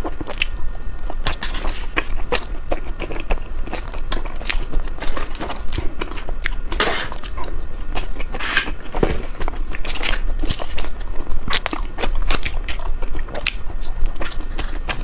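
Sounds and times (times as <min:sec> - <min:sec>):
chewing with mouth clicks: 0:00.0 - 0:15.0
ice cream crunching: 0:00.0 - 0:15.0.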